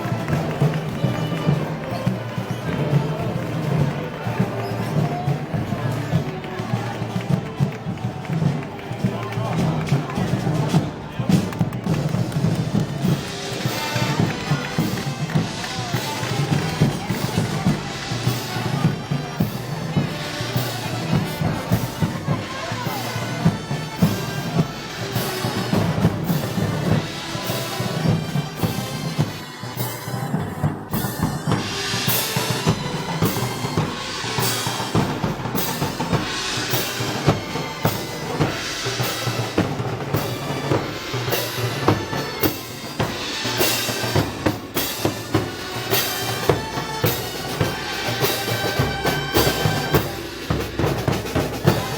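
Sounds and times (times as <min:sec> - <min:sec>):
band playing march: 0:00.0 - 0:51.9
snare drum rolls: 0:00.0 - 0:51.9.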